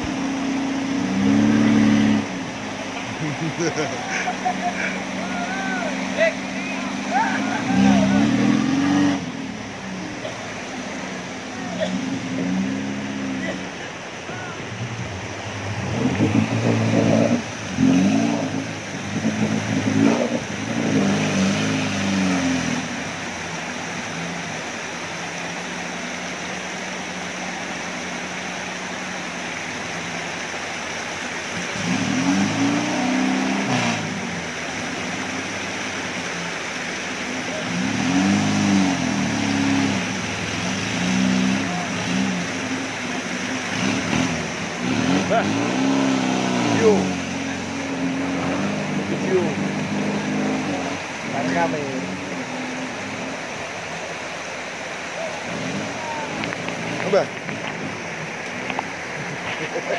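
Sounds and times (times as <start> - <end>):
engine revving: 0.0 - 59.9
river rapids rushing: 0.0 - 59.9.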